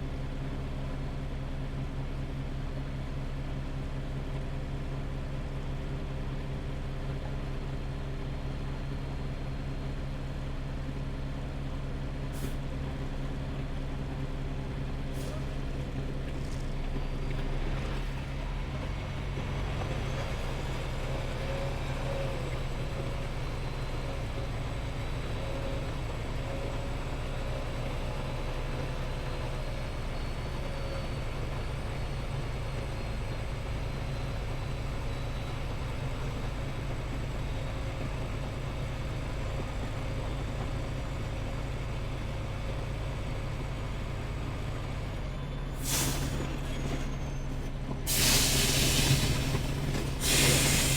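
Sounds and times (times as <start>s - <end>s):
truck engine droning: 0.0s - 50.9s.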